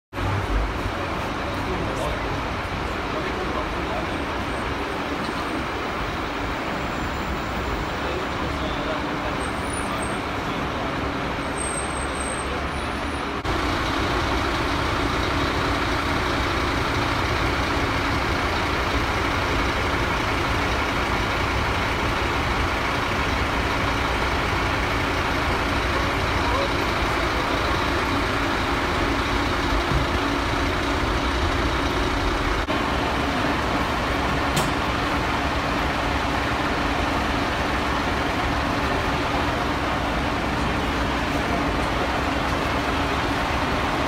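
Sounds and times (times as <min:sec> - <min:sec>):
city street traffic: 0:00.1 - 0:44.0
diesel engine idling: 0:00.2 - 0:44.0.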